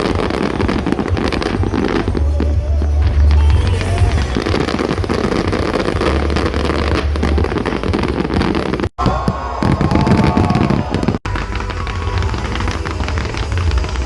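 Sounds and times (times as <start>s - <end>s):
fireworks booming: 0.0s - 14.0s
fireworks crackling: 0.0s - 14.0s
fireworks whistling: 0.0s - 14.0s.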